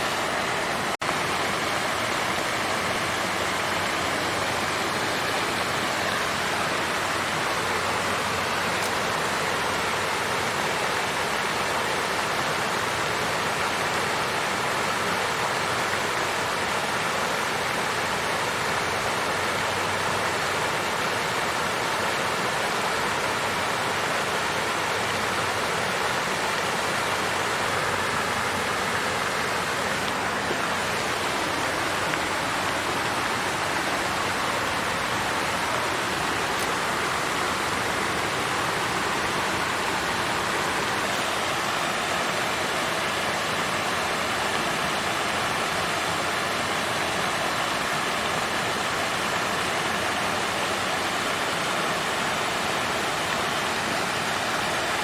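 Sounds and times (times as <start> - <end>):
fountain water splashing: 0.0 - 55.0.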